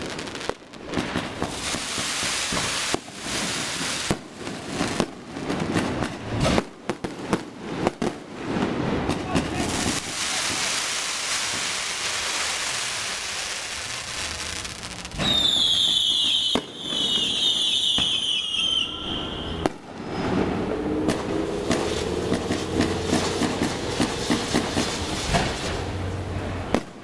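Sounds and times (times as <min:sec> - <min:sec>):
fountain firework hissing: 0:00.0 - 0:27.0
sharp firework bangs: 0:00.0 - 0:27.0
whistling fireworks: 0:00.0 - 0:27.0.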